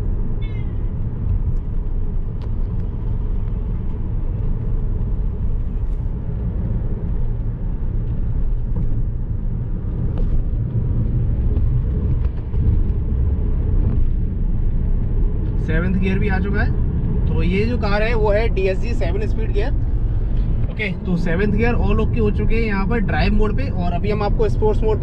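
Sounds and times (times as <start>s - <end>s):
engine and tyre rumble in car: 0.0s - 25.0s.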